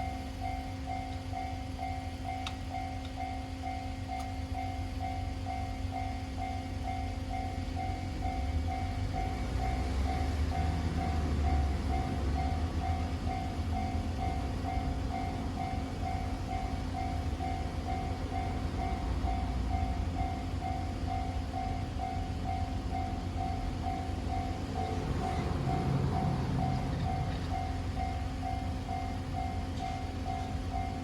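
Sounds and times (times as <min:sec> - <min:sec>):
level-crossing warning bell: 0:00.0 - 0:31.0
train rumbling past: 0:00.0 - 0:31.0.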